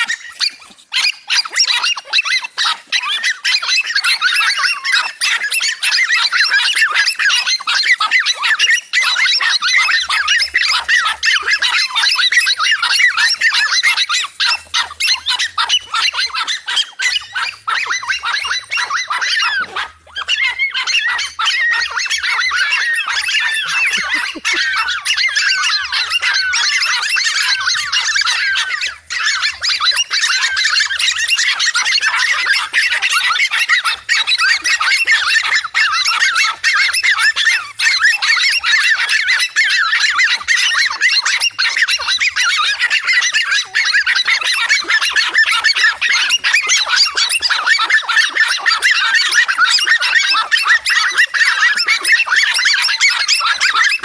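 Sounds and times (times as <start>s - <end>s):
dogs barking: 0.0s - 54.0s.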